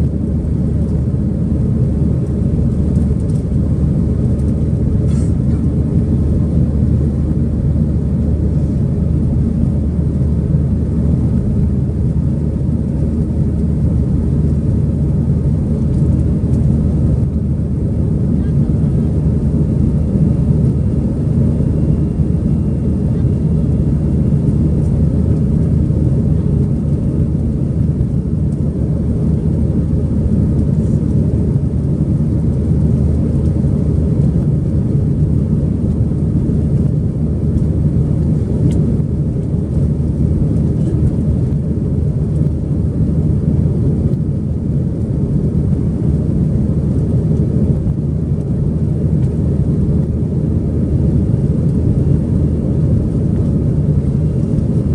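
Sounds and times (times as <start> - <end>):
jet engine rumble in cabin: 0.0 - 54.9.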